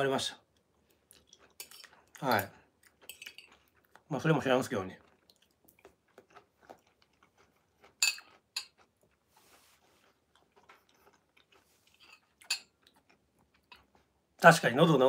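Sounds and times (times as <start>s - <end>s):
soft chewing: 0.4s - 14.4s.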